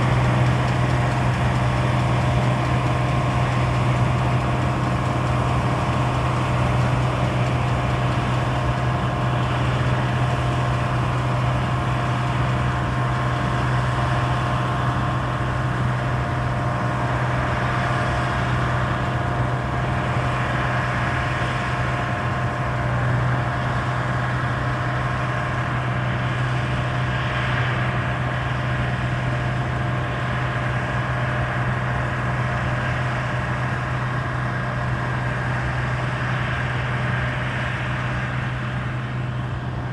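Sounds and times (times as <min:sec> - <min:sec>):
combine harvester engine drone: 0:00.0 - 0:39.9
machinery whine: 0:00.0 - 0:39.9.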